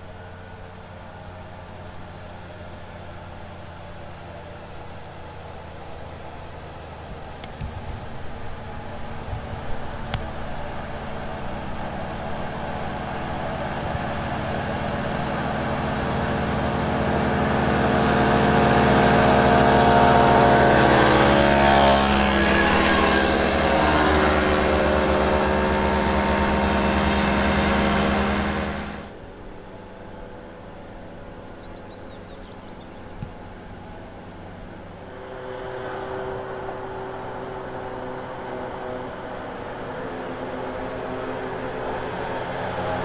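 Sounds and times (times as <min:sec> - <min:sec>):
moped engines passing: 0:00.0 - 0:43.0.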